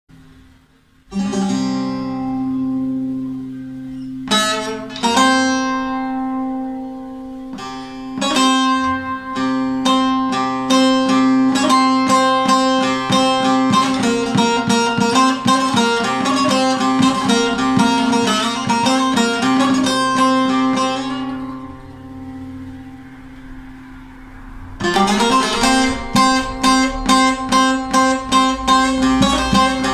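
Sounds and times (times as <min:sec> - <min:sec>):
drone string: 0:01.1 - 0:29.9
long-necked lute playing: 0:01.1 - 0:29.9.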